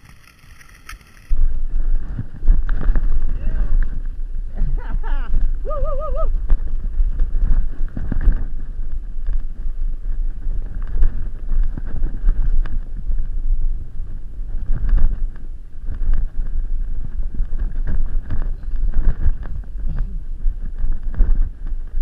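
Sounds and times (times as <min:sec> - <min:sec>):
bike rattling over stones: 0:00.0 - 0:05.7, 0:06.3 - 0:22.0
wind rumble on microphone: 0:00.0 - 0:22.0.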